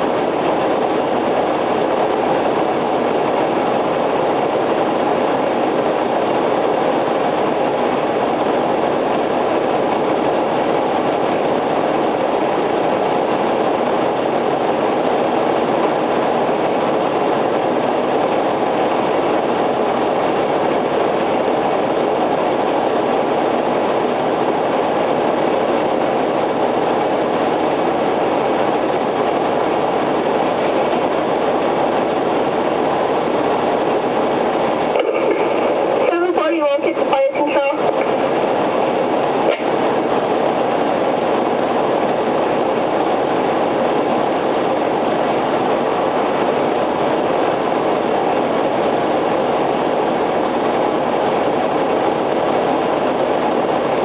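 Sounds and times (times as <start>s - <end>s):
fire engine running: 0.0s - 53.6s.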